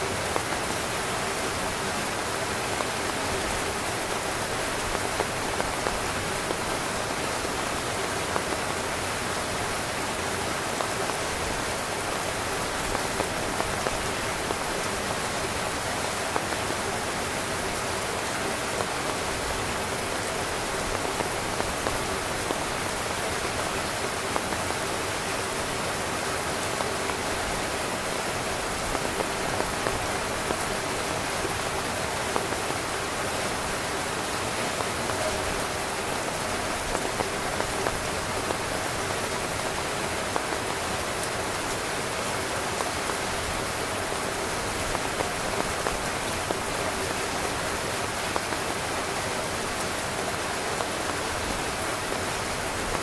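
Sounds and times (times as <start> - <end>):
heavy rain on a tent: 0.0 - 53.0.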